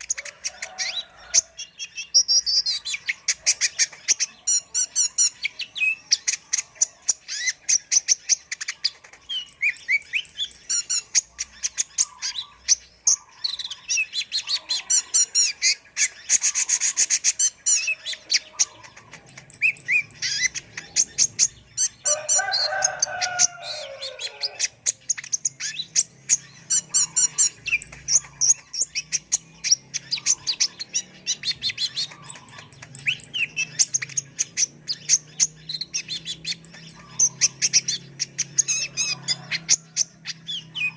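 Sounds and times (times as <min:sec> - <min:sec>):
sunbird chirping and trilling: 0:00.0 - 0:40.9.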